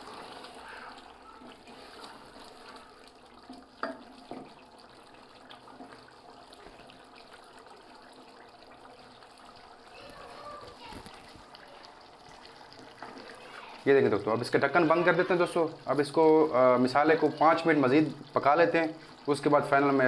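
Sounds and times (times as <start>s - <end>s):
gravy sloshing and bubbling: 0.0s - 20.0s.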